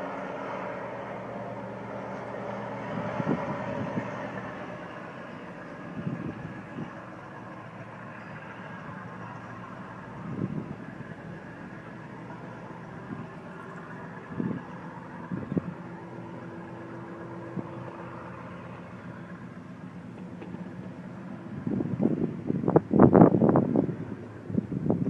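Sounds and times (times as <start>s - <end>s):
boat engines droning: 0.0s - 25.0s
wind buffeting microphone: 1.6s - 19.6s, 20.2s - 25.0s.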